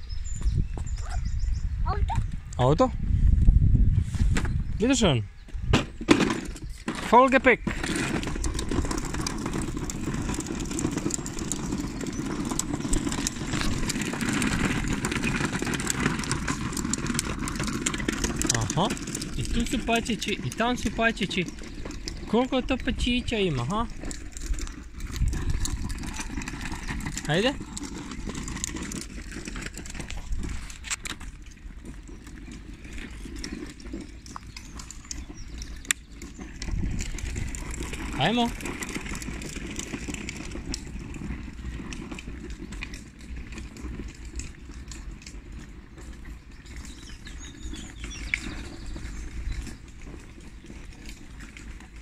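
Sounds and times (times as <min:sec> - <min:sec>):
pushchair wheels rumbling on paving: 0:00.0 - 0:52.0
plastic toy car rolling over bricks: 0:05.6 - 0:52.0.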